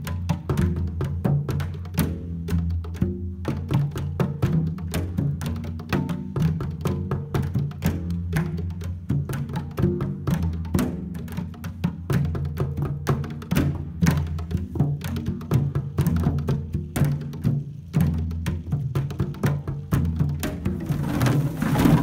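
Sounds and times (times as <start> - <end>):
plastic jugs hand-drummed: 0.0 - 22.0.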